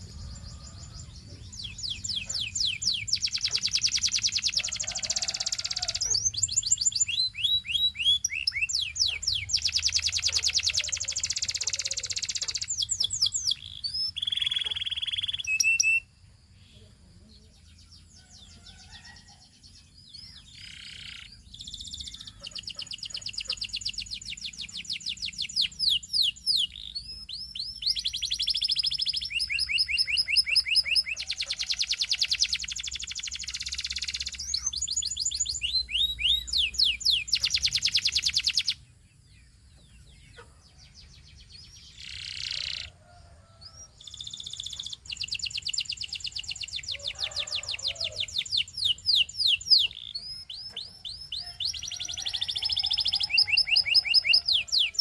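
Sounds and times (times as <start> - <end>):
canary trilling song: 0.0 - 16.6, 17.6 - 55.0.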